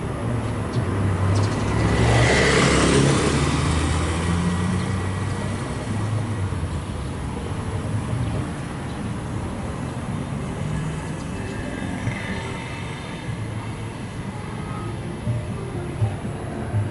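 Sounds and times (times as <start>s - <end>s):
locomotive engine droning: 2.9s - 16.9s.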